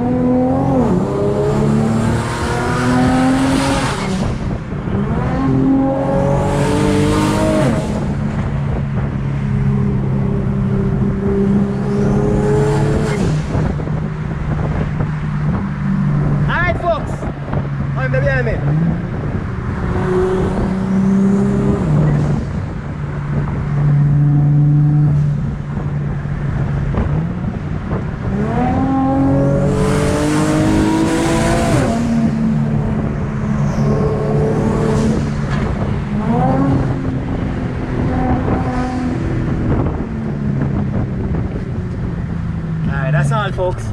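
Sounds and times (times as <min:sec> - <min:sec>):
car engine accelerating hard: 0:00.0 - 0:16.5, 0:17.2 - 0:43.7.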